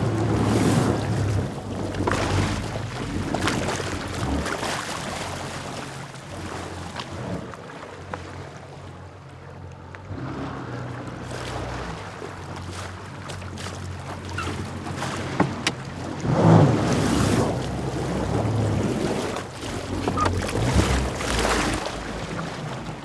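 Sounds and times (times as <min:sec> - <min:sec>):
jet ski engine running: 0:00.0 - 0:23.0
water splashing around hull: 0:00.0 - 0:23.0.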